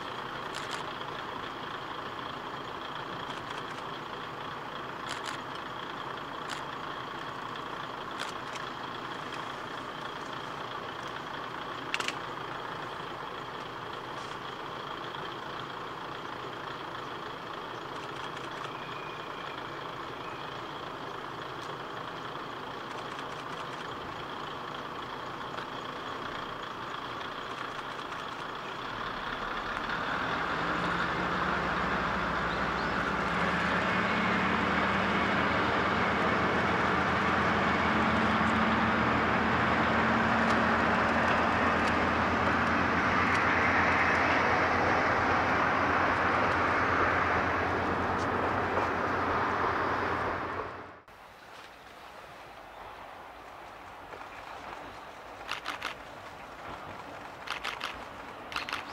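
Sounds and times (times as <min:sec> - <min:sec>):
diesel railcar engine: 0:00.0 - 0:58.9.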